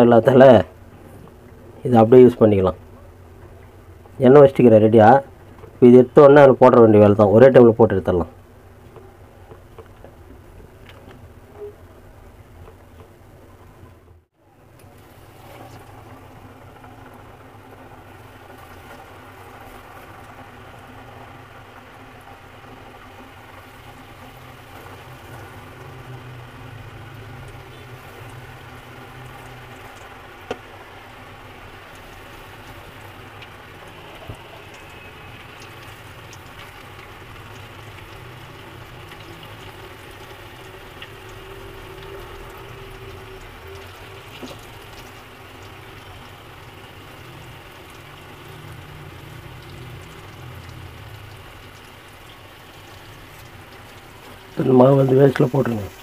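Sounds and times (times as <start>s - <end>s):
hot oil sizzling: 0.0s - 56.0s.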